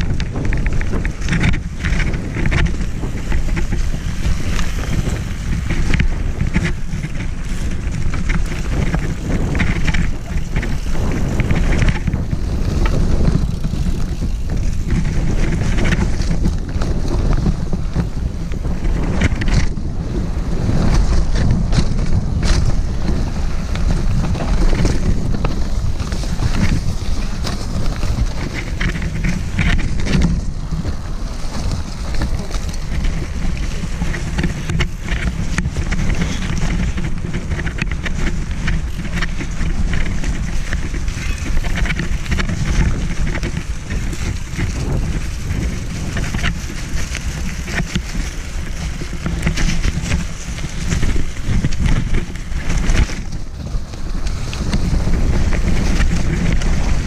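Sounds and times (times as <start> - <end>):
bike clicks and rattles: 0.0 - 57.0
tyres on dirt: 0.0 - 57.0
wind rumble on microphone: 0.0 - 57.0.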